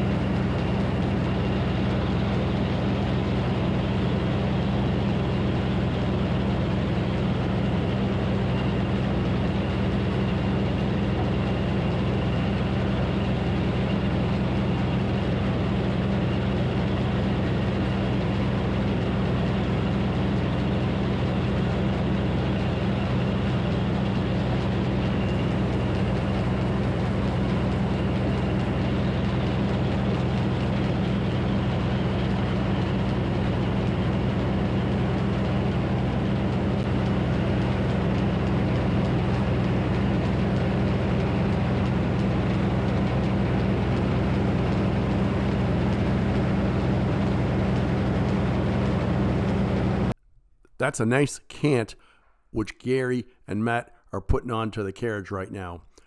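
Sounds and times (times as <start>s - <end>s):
engine droning steadily: 0.0s - 50.2s.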